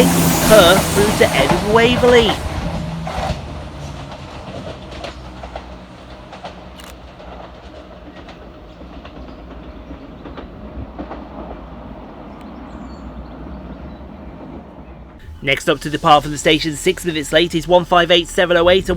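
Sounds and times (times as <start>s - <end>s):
train rumbling past: 0.0s - 18.9s
wheels clicking over rail joints: 0.0s - 18.9s.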